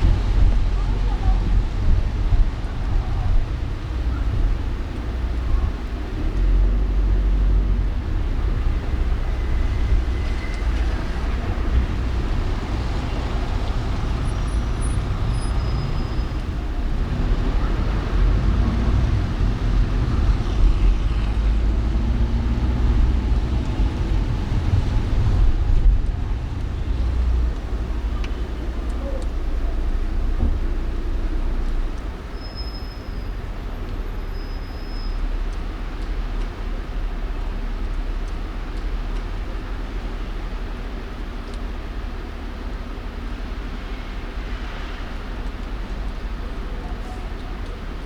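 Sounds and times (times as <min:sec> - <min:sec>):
car engine and road noise: 0:00.0 - 0:48.0
surrounding traffic hum: 0:00.0 - 0:48.0.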